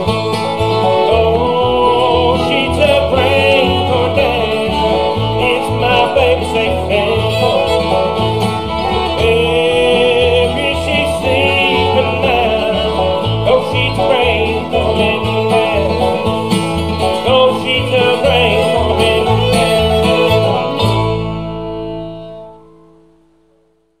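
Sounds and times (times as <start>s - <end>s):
banjo: 0.0s - 23.2s
fiddle: 0.0s - 23.6s
acoustic guitar: 0.0s - 24.0s
bass guitar: 0.0s - 24.0s.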